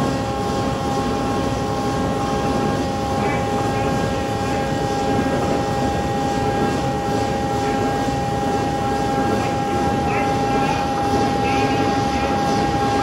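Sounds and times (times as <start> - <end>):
high-pitched whine: 2.3 - 13.0.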